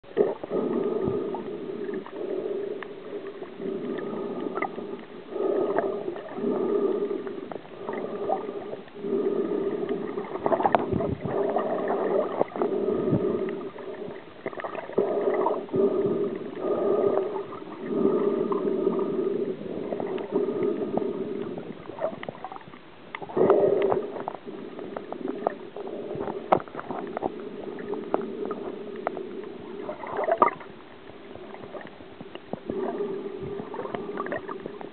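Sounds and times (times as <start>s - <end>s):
muffled underwater gurgling: 0.0s - 34.9s
small underwater clicks: 0.1s - 34.9s.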